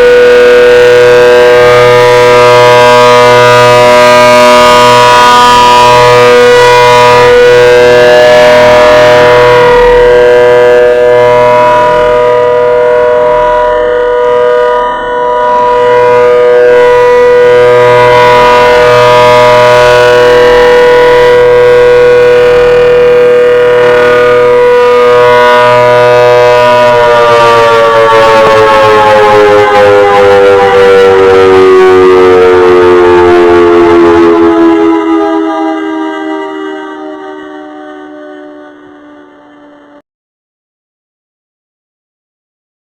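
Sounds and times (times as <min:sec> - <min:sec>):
warning siren two-tone chord: 0:00.0 - 0:40.0.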